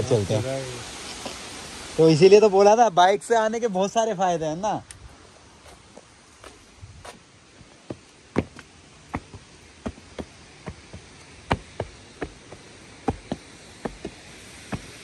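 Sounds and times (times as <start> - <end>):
distant waterfall rushing: 0.0 - 15.0.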